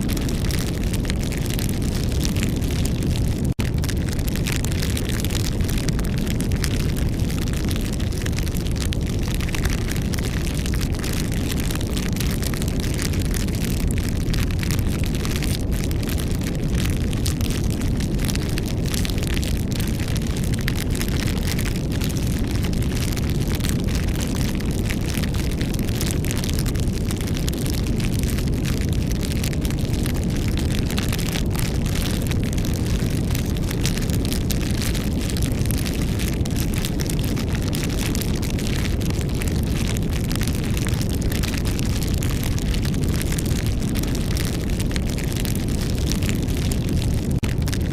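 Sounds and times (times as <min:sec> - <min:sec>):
burning wood crackling and popping: 0:00.0 - 0:47.9
low rumble of flame: 0:00.0 - 0:47.9.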